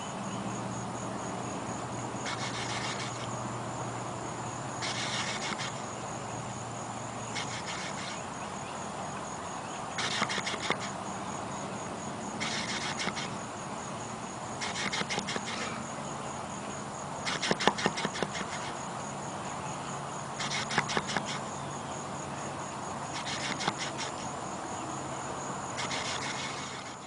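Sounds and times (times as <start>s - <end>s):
high insect buzz: 0.0s - 27.0s.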